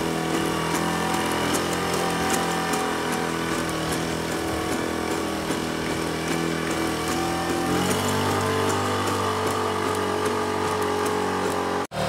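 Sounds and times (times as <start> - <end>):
robot engine and hydraulics running: 0.0 - 12.0.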